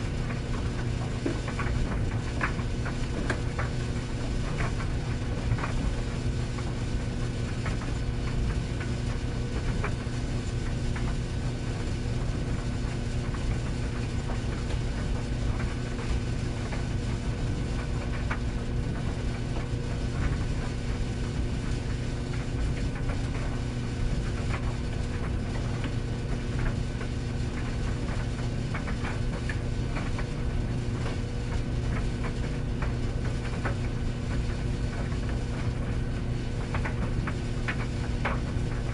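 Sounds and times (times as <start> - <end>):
tumble dryer running: 0.0 - 38.9.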